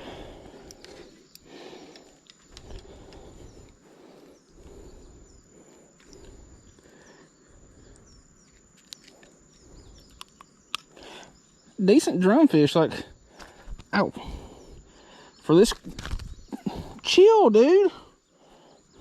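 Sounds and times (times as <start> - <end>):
faint bird chirps: 0.0 - 19.0
high insect whine: 0.0 - 19.0.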